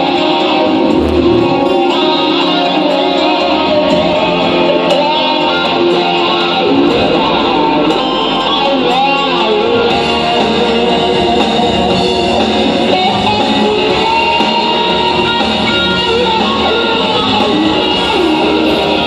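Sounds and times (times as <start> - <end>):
electric guitar lead melody: 0.0 - 19.0
rock band backing: 0.0 - 19.0.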